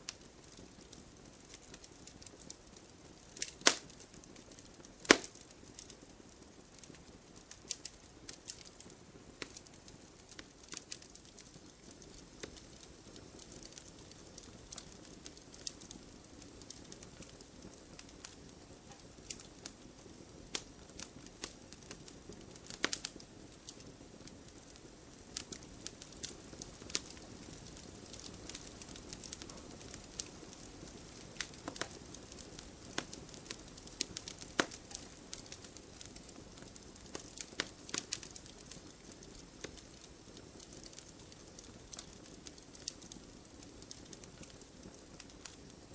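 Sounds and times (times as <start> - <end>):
wood fire crackling and hissing: 0.0 - 45.9
burning wood pops: 0.1 - 6.0, 6.7 - 45.8.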